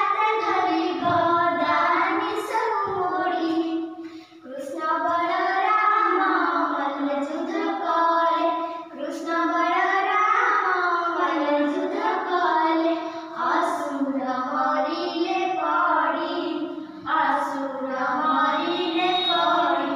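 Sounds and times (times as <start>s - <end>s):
girls singing: 0.0s - 19.9s.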